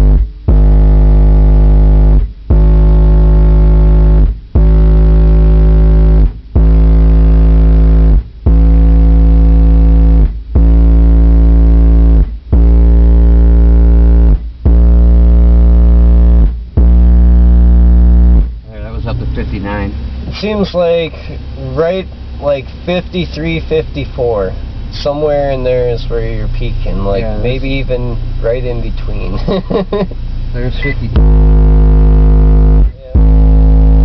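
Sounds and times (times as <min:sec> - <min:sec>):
distorted bass test tones: 0:00.0 - 0:34.0.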